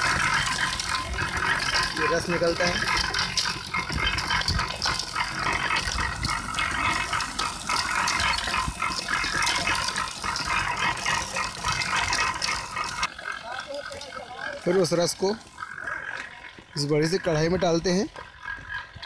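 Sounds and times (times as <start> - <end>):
cane stalks being crushed: 0.0 - 16.9
sugarcane crusher rattling: 0.0 - 19.0.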